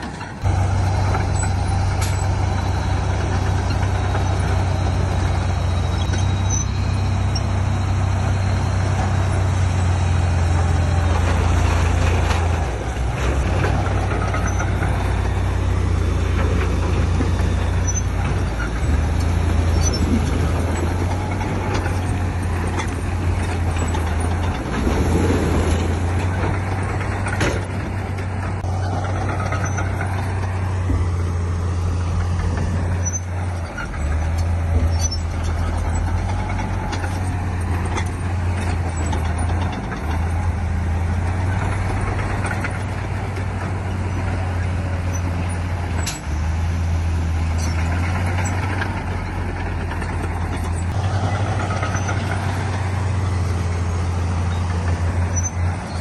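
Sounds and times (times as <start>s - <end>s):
bulldozer diesel engine droning: 0.0s - 56.0s
rough mechanical noise: 0.0s - 56.0s.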